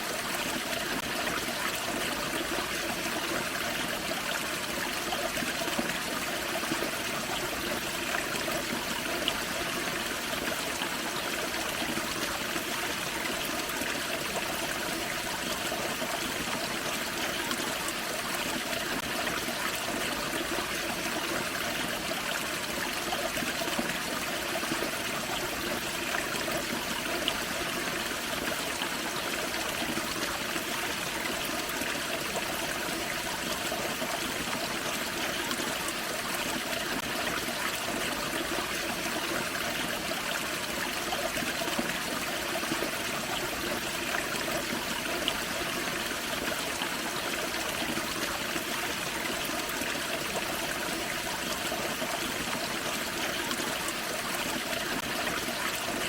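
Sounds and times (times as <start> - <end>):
creek flowing over waterfall: 0.0 - 56.0.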